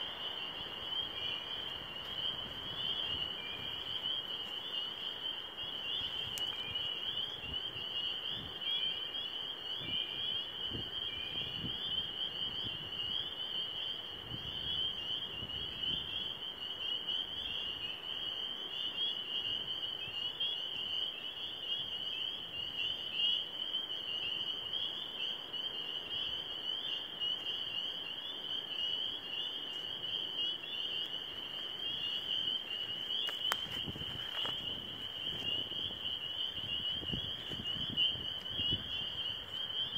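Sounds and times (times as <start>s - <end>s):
frog chorus: 0.0s - 39.9s.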